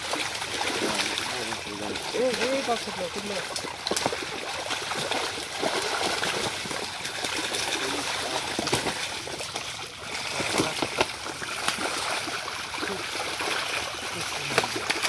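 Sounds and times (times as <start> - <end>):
fish thrashing and splashing in water: 0.0 - 15.0.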